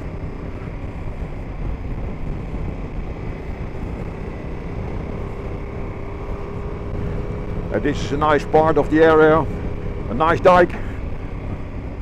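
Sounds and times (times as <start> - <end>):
motorcycle engine cruising: 0.0 - 12.0
wind buffeting microphone: 0.0 - 12.0.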